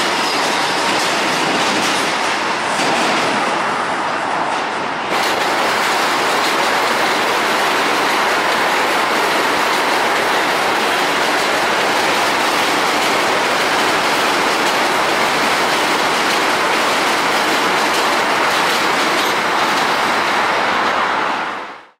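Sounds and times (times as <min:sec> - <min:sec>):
subway train wheels on rails: 0:00.0 - 0:21.9.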